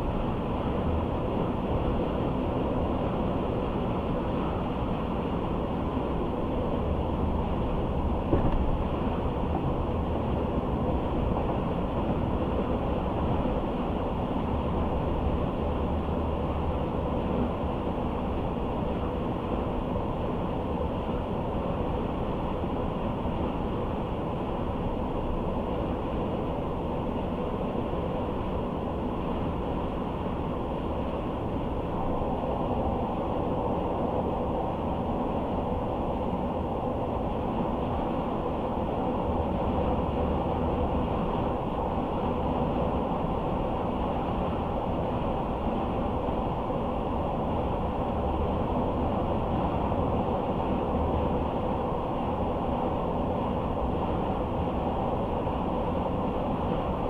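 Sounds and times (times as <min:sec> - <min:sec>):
car road and engine noise: 0:00.0 - 0:57.0
faint steady hum: 0:00.0 - 0:57.0.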